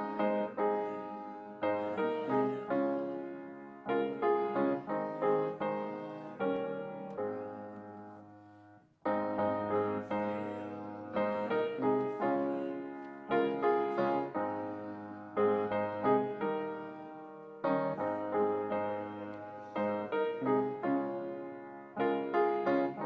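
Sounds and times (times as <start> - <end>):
piano playing slow chords: 0.0 - 23.0.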